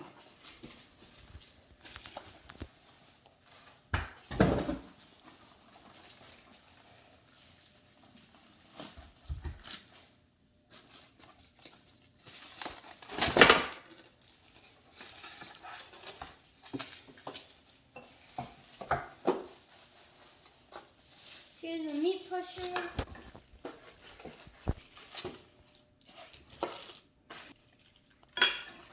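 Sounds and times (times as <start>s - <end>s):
plastic wrapping rustling: 0.0s - 28.9s.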